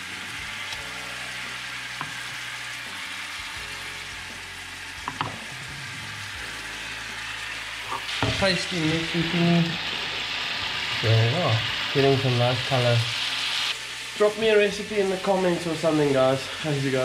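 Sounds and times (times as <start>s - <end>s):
fish sizzling in sauce: 0.0s - 17.0s.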